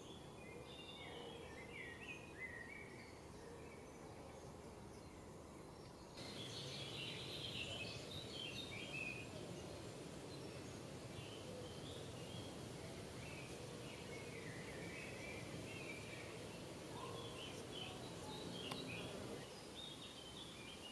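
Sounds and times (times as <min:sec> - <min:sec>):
low background noise: 0:00.0 - 0:20.9
songbirds chirping: 0:00.0 - 0:20.9.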